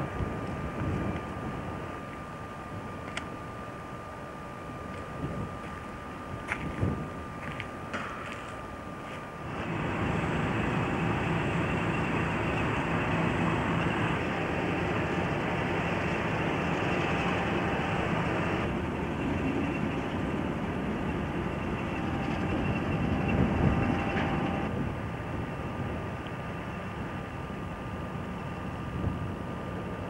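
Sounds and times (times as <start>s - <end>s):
rail depot rumble and hiss: 0.0s - 30.0s.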